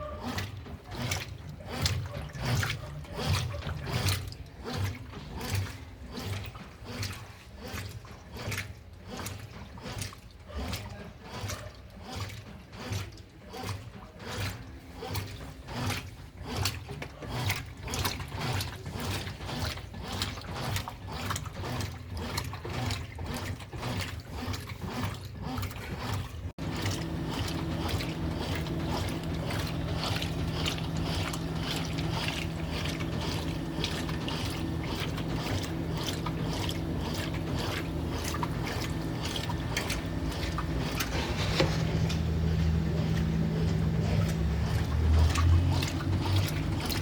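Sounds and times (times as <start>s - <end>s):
spin motor hum: 0.0s - 47.0s
washing machine agitating: 0.0s - 47.0s
water sloshing: 0.0s - 47.0s.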